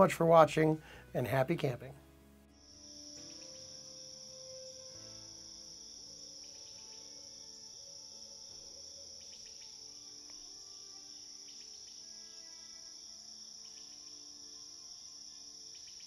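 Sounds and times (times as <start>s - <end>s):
soft background music: 0.0s - 16.0s
crickets chirping: 2.4s - 16.0s.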